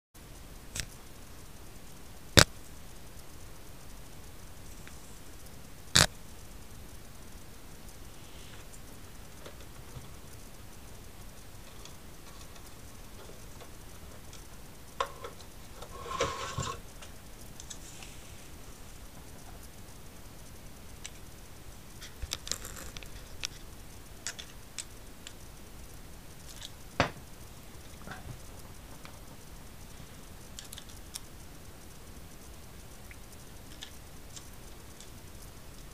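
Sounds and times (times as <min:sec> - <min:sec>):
steady low hiss: 0:00.2 - 0:35.9
hard drive clicks and taps: 0:00.7 - 0:35.9.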